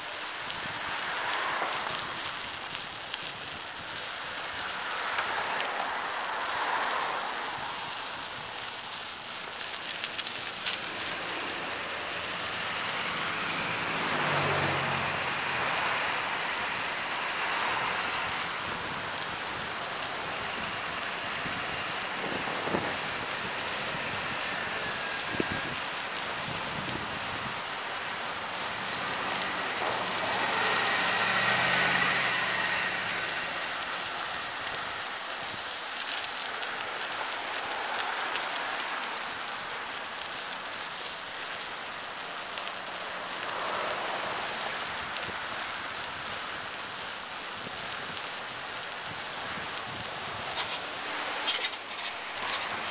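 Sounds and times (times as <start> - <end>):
nearby traffic: 0.0 - 52.9
tyres on pavement: 0.0 - 52.9
wind and road rushing noise: 0.0 - 52.9.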